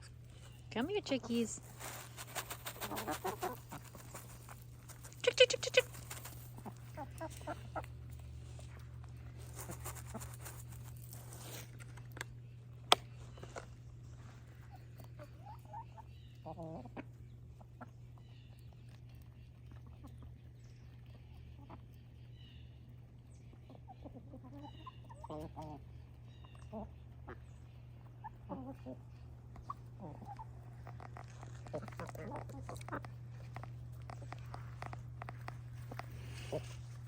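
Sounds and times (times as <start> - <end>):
hens clucking and trilling: 0.0 - 11.4, 13.2 - 22.3, 23.0 - 37.0
steady low hum: 0.0 - 37.0.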